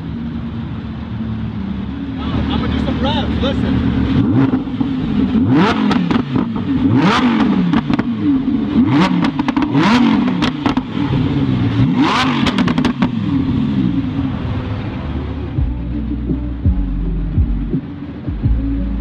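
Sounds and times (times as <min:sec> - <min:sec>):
sports car engine revving: 0:00.0 - 0:19.0
exhaust cracks: 0:02.2 - 0:18.6.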